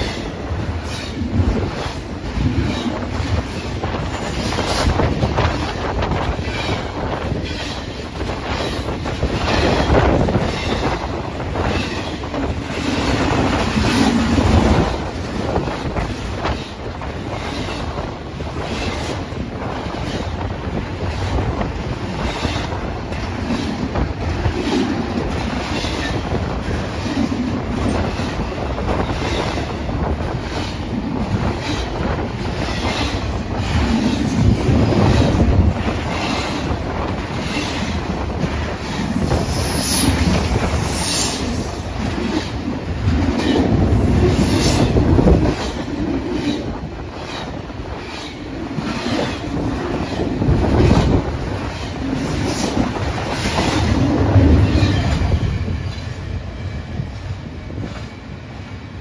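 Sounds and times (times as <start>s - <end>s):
wheels clacking over rail joints: 0.0s - 57.2s
heavy train rumble: 0.0s - 59.0s.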